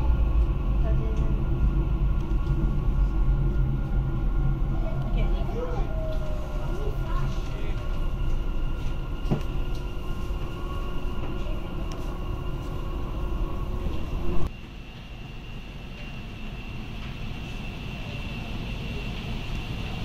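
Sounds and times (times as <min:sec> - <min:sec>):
train rumble with motor whine: 0:00.0 - 0:20.0.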